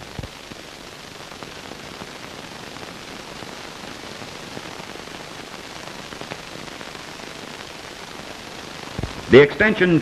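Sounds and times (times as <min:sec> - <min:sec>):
film soundtrack hiss and crackle: 0:00.0 - 0:10.0.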